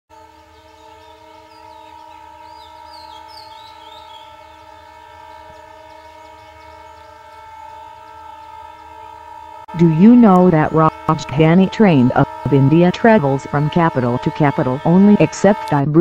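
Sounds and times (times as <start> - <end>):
birds chirping: 0.1 - 15.8
diesel locomotive horn: 0.1 - 16.0
train rumble: 2.1 - 16.0.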